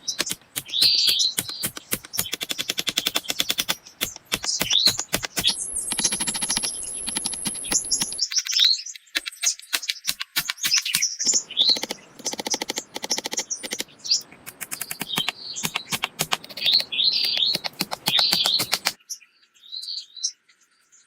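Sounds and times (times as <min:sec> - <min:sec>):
birds chirping: 0:00.0 - 0:21.0
dry clicks and taps: 0:00.2 - 0:08.6, 0:09.2 - 0:13.9, 0:14.5 - 0:19.0.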